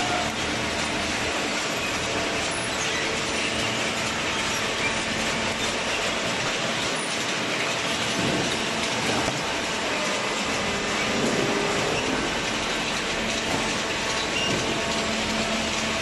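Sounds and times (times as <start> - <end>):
conveyor metallic clatter: 0.0 - 16.0.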